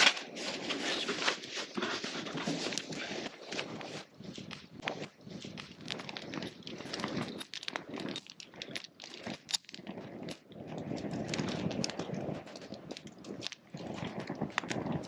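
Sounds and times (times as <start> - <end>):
bonfire crackling and popping: 2.6 - 15.0.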